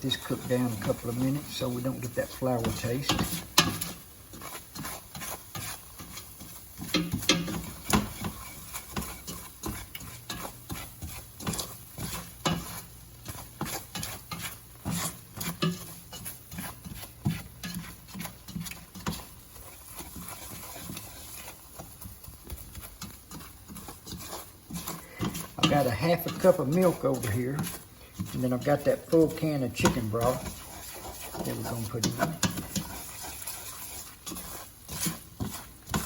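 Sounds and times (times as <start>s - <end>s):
faint sizzle: 0.0s - 36.0s
utensil scraping a skillet: 0.0s - 36.0s.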